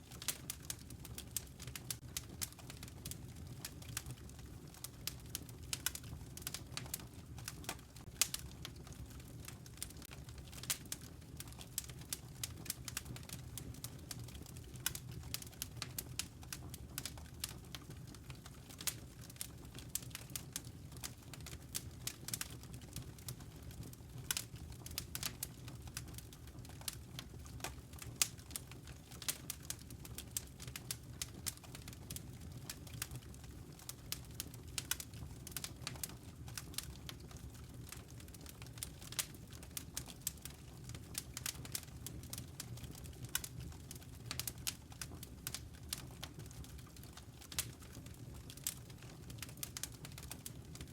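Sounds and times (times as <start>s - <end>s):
campfire crackling and popping: 0.0s - 50.9s
low rumble of flames: 0.0s - 50.9s.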